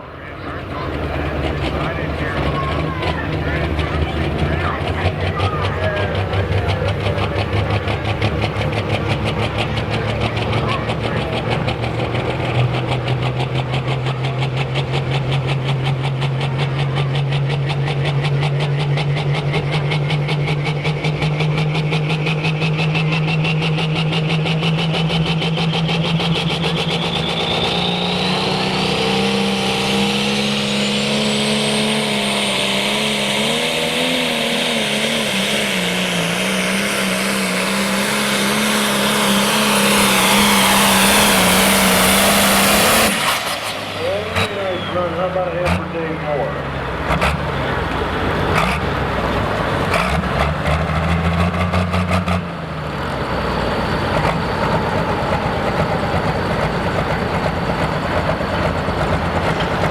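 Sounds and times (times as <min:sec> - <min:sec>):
diesel tractor engine at high revs: 0:00.0 - 0:59.9
high turbo whine: 0:00.0 - 0:59.9.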